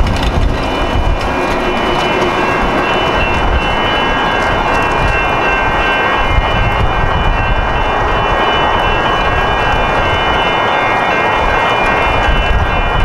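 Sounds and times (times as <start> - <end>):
crossing warning bells ringing: 0.0 - 13.0
light rail train rolling: 0.0 - 13.0
wind rumbling on microphone: 0.0 - 13.0.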